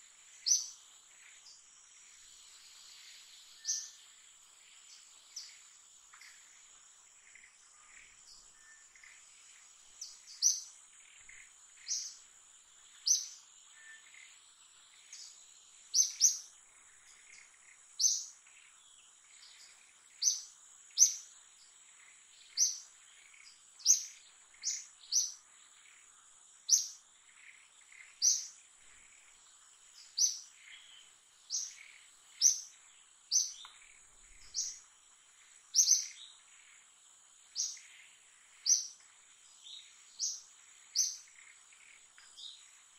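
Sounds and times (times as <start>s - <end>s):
bird chirping: 0.3s - 6.5s, 7.2s - 36.9s, 37.5s - 42.9s.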